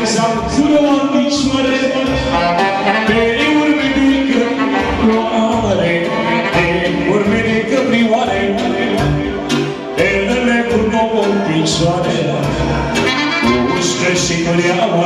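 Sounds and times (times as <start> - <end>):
folk dance band playing: 0.0 - 15.0
man singing into a microphone: 0.0 - 15.0.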